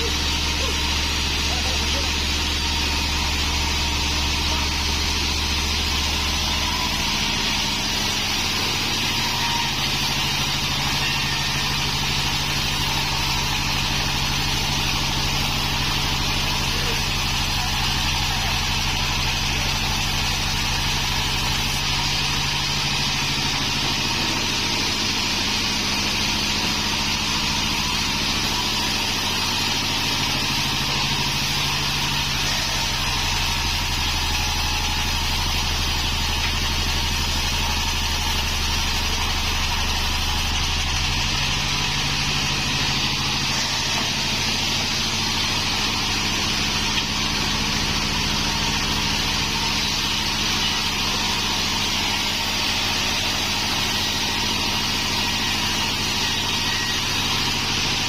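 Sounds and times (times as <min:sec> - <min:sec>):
sawmill engine droning: 0:00.0 - 0:58.0.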